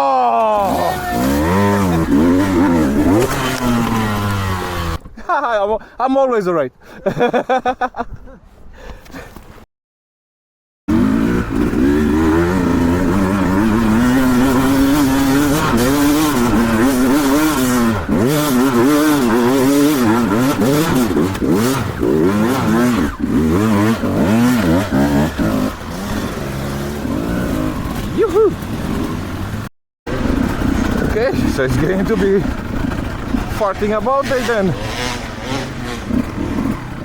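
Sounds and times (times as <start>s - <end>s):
dirt bike engine revving: 0.5s - 5.0s, 10.9s - 37.0s.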